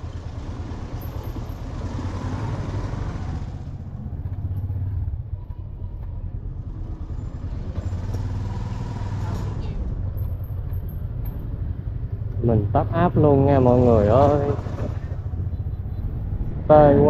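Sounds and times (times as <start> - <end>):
motorbike engine drone: 0.0 - 17.0
road and wind hiss: 0.0 - 17.0.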